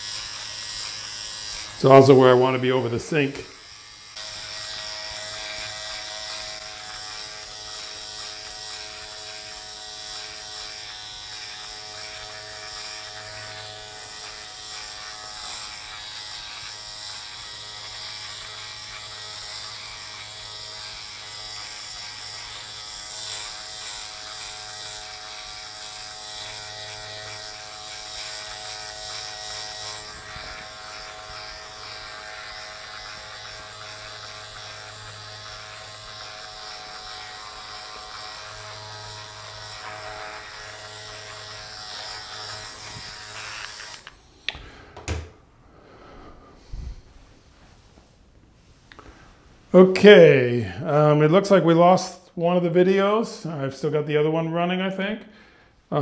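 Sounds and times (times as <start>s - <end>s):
electric shaver buzzing: 0.0s - 45.4s.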